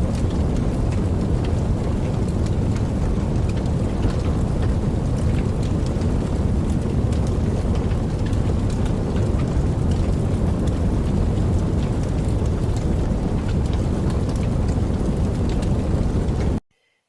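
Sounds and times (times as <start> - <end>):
water splashes and drips: 0.0 - 16.5.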